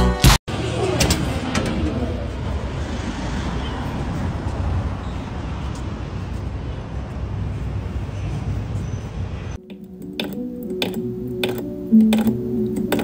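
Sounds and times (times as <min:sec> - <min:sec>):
traffic noise rumble: 0:00.5 - 0:13.0.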